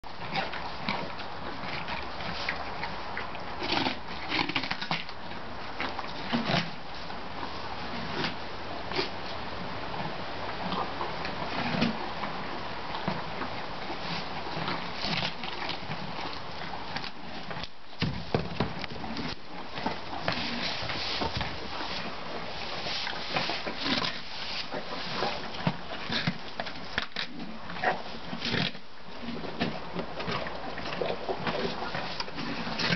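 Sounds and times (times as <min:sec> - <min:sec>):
horses crunching hay: 0:00.0 - 0:32.9.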